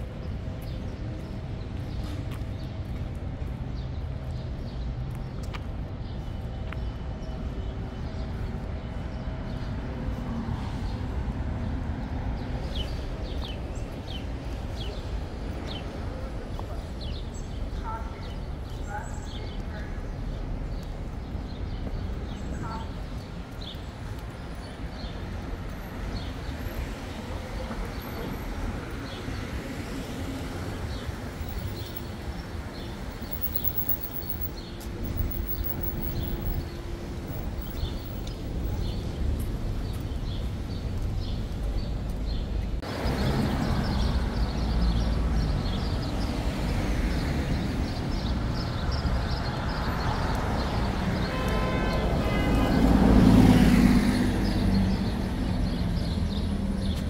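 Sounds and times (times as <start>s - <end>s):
rumble of passing traffic: 0.0s - 57.0s.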